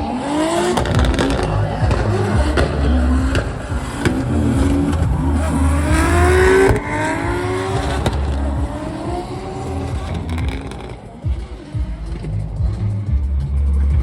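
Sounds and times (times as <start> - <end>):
car engine revving hard: 0.0 - 13.2.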